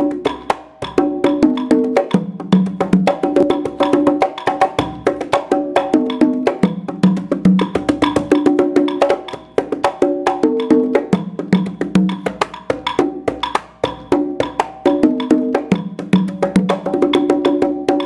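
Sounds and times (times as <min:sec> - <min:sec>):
toy conga drums tapping: 0:00.0 - 0:18.0.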